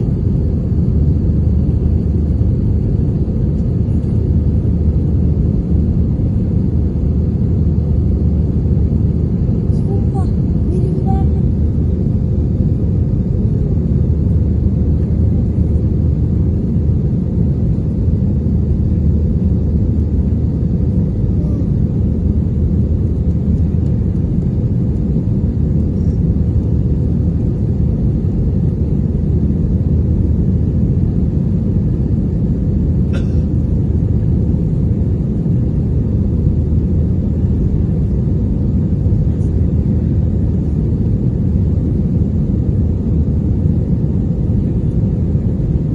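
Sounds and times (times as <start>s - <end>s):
aircraft engines rumbling in cabin: 0.0s - 45.9s.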